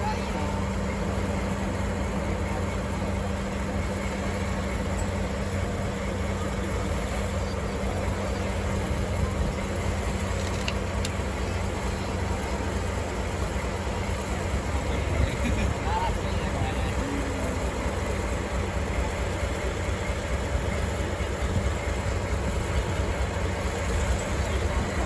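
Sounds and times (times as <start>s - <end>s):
diesel locomotive engine droning: 0.0s - 25.0s.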